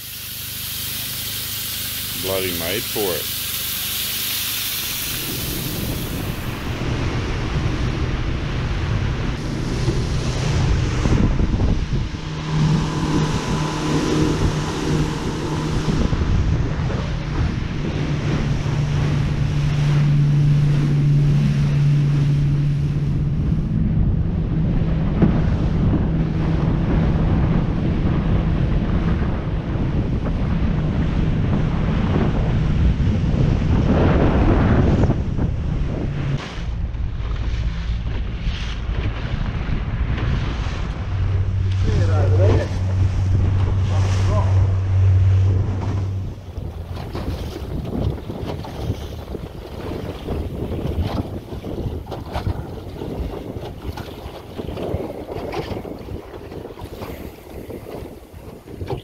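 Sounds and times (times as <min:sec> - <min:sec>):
boat motor humming: 0:00.0 - 0:59.0
water rushing past hull: 0:00.0 - 0:59.0
wind buffeting microphone: 0:04.9 - 0:59.0.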